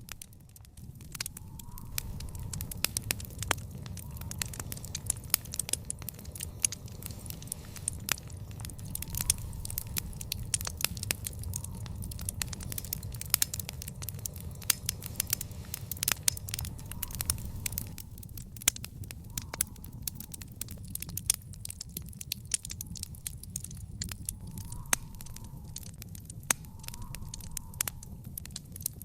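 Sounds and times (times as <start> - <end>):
fire crackling: 0.0 - 29.0
sharp fire pops: 0.0 - 29.0
steady low rumble: 0.0 - 29.0.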